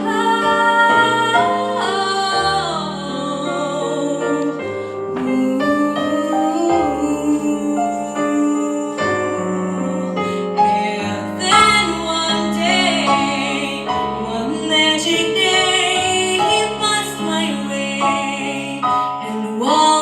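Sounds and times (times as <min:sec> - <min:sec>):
girl singing jazz ballad: 0:00.0 - 0:20.0
piano accompaniment: 0:00.0 - 0:20.0.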